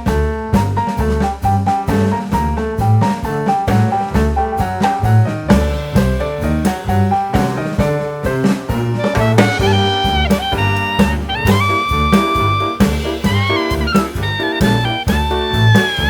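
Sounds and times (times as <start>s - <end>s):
jazzy instrumental music: 0.0s - 16.0s.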